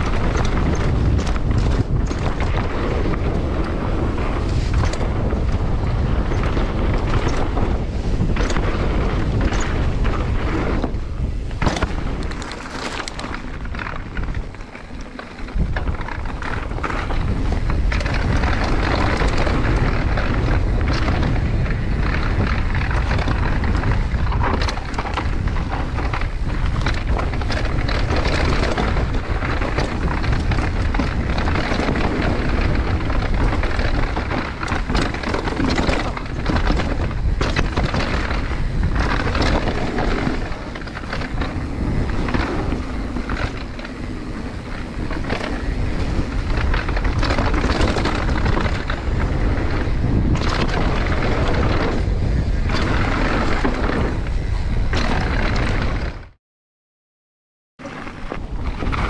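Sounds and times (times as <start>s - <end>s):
bike clattering over rocks: 0.0s - 56.2s
tyres rumbling on dirt trail: 0.0s - 56.4s, 57.8s - 59.0s
wind buffeting microphone: 0.0s - 56.4s, 57.8s - 59.0s.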